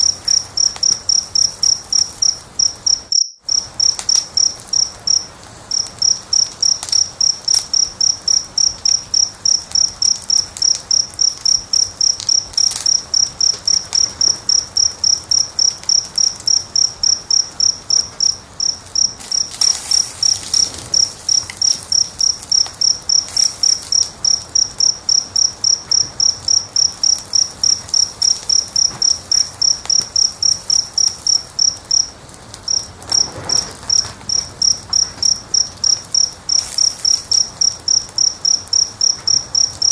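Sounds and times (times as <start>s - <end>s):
cricket chirping: 0.0s - 39.9s
wood fire crackling: 0.0s - 39.9s.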